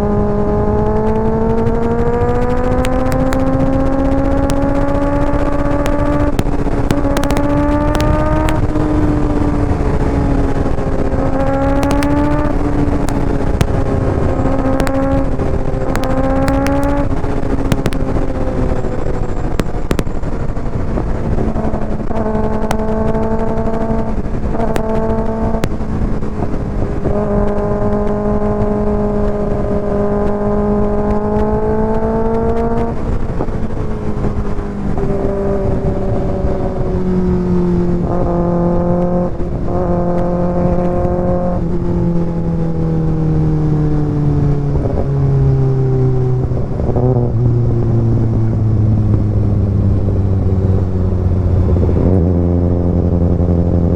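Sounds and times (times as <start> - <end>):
motorcycle engine revving: 0.0 - 53.9
steady rushing noise: 0.0 - 53.9.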